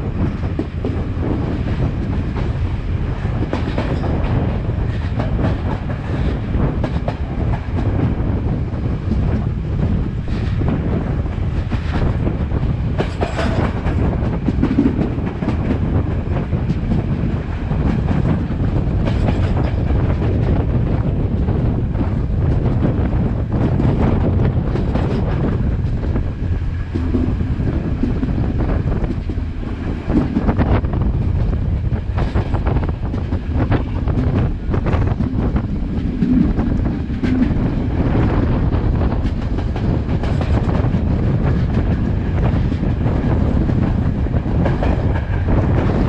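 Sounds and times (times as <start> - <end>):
wheels rumbling on rails: 0.0 - 46.0
wind buffeting microphone: 0.0 - 46.0
clacks over rail joints: 0.1 - 46.0.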